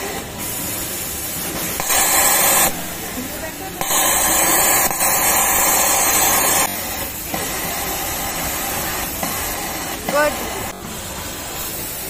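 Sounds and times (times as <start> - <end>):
compressed air hiss: 0.0 - 12.0
factory machinery hiss: 0.0 - 12.0.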